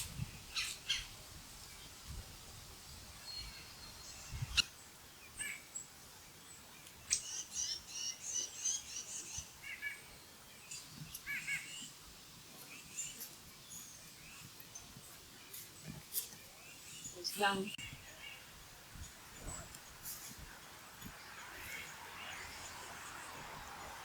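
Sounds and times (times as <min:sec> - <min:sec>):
birds chirping: 0:00.0 - 0:02.1, 0:03.1 - 0:24.0.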